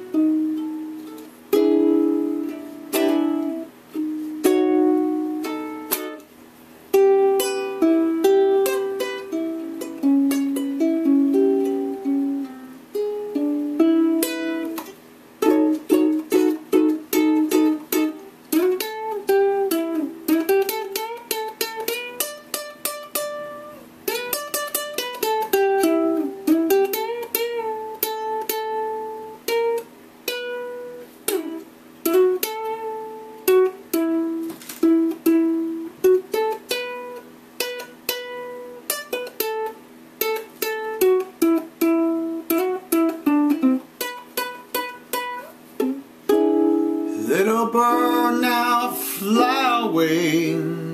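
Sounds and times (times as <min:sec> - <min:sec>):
solo ukulele blues: 0:00.0 - 0:50.9.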